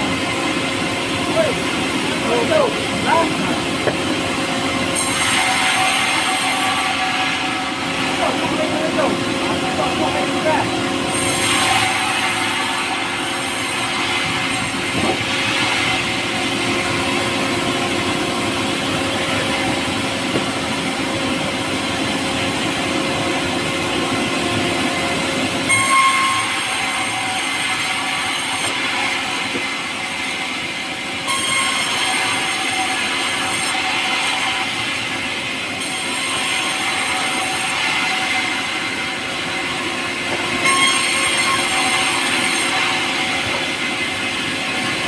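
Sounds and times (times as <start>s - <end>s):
saw cutting wood: 0.0s - 45.0s.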